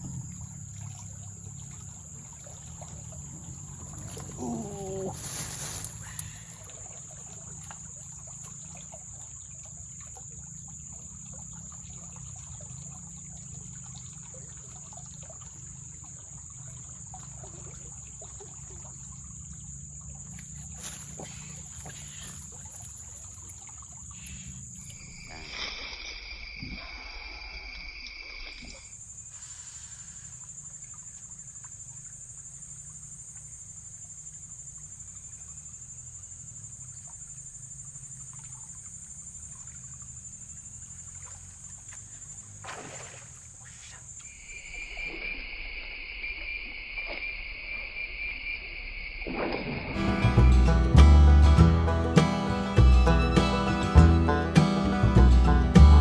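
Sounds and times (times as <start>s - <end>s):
high insect drone: 0.0s - 50.9s.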